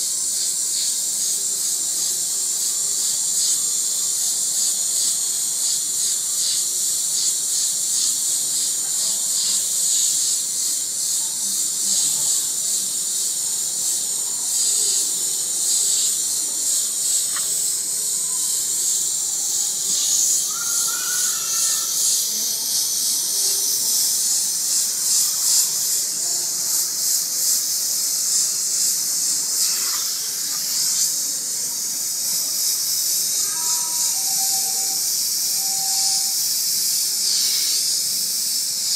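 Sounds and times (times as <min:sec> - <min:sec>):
airbrush hissing: 0:00.0 - 0:38.9.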